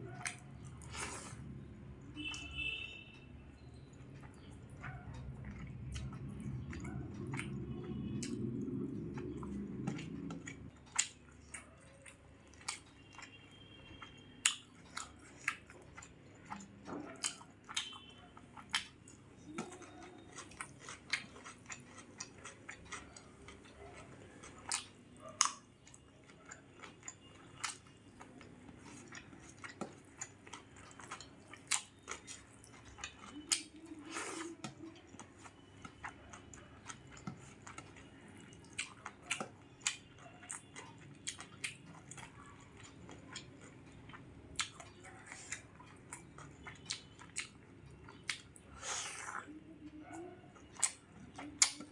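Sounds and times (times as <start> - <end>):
close chewing with lip smacks: 0.0 - 1.5, 3.6 - 51.9.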